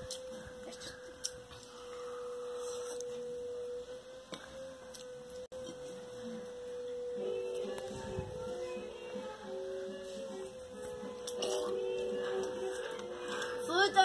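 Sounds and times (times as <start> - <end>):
lower tone: 0.0 - 14.0.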